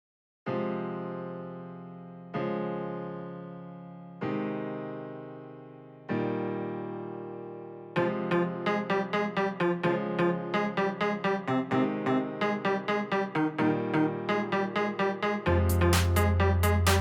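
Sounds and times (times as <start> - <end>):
piano chords: 0.5 - 17.0.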